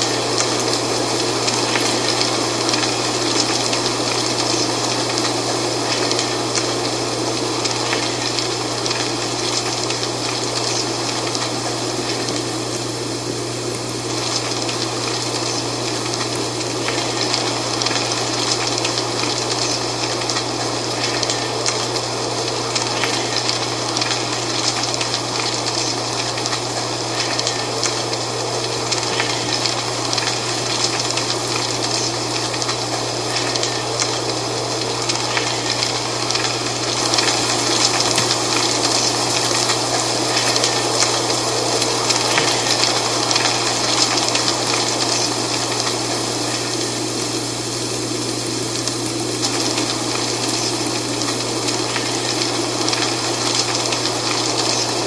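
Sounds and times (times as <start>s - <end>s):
dry leaves rustling in wind: 0.0s - 55.0s.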